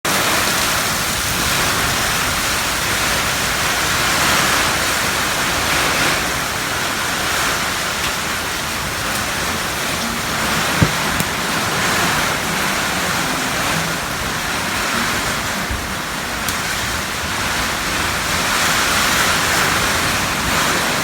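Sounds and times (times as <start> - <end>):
heavy storm rain: 0.0 - 21.0.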